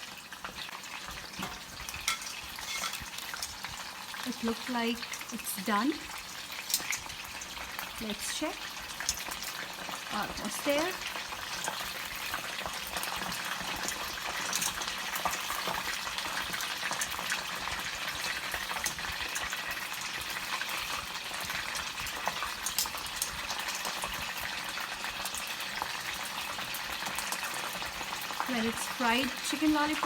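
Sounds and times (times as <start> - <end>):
deep-frying sizzle with pops: 0.0 - 30.0.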